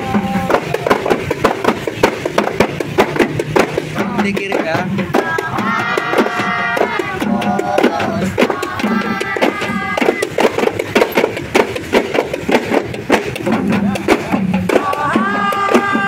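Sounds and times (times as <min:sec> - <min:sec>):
hand drums beaten in rhythm: 0:00.0 - 0:16.0.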